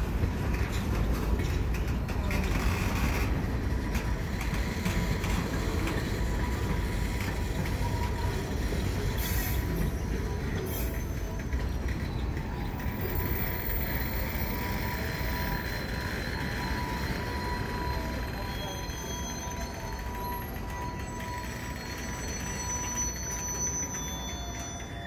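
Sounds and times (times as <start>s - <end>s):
freight train wheels rumbling on rail: 0.0s - 25.0s.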